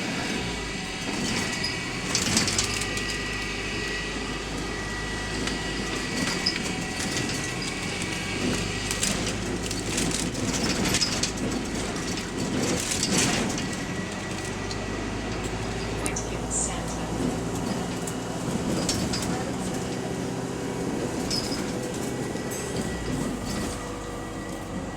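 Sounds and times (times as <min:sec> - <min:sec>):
bus high-pitched whine: 0:00.0 - 0:24.9
rattling clatter: 0:00.0 - 0:24.9.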